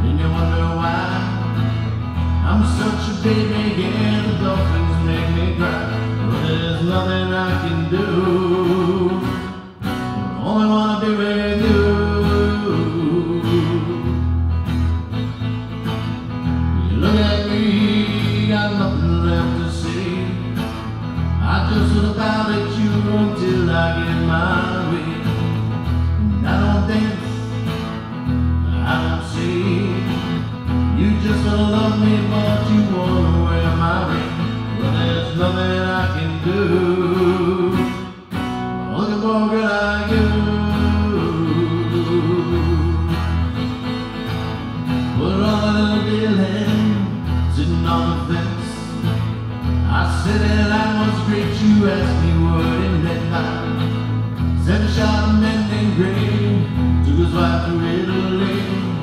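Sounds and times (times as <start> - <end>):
man singing: 0.0 - 14.3, 16.6 - 43.8, 44.9 - 59.0
acoustic bass line: 0.0 - 59.0
acoustic guitar strumming: 0.0 - 59.0.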